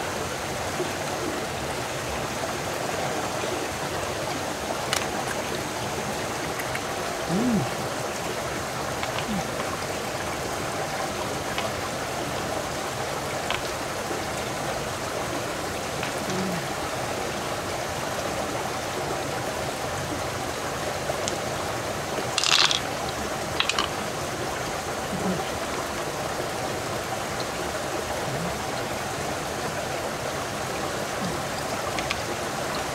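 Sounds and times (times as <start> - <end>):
river water flowing: 0.0 - 32.9.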